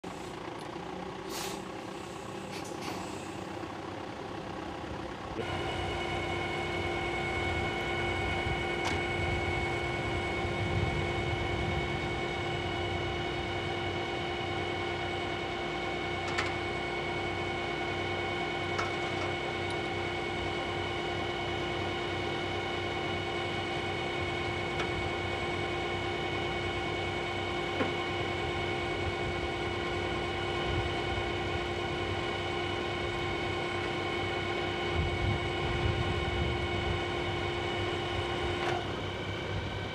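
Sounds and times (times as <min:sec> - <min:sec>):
steady high whine: 0:00.0 - 0:39.9
truck diesel engine idling: 0:00.0 - 0:39.9.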